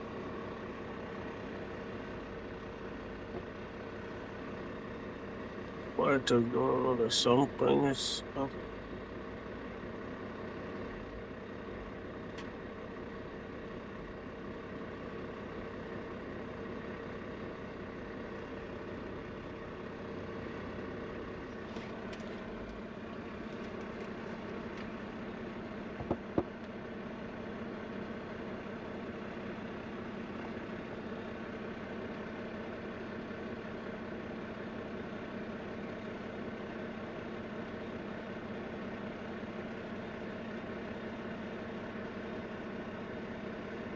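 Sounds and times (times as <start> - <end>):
truck engine humming: 0.0 - 43.9.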